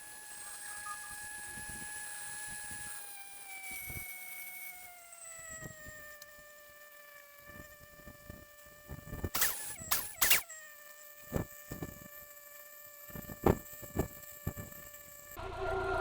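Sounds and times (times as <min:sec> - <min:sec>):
mechanical whine sliding down: 0:00.0 - 0:16.0.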